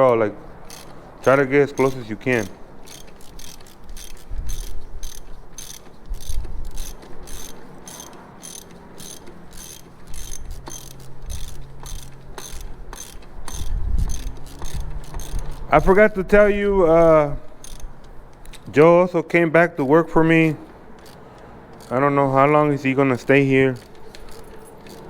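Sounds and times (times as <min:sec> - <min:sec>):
ratchet wrench clicking: 0:00.6 - 0:18.7, 0:20.9 - 0:22.6, 0:23.2 - 0:25.0.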